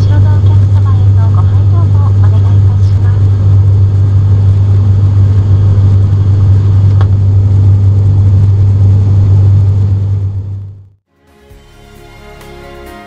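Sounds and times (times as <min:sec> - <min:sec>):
propeller engine drone: 0:00.0 - 0:11.0.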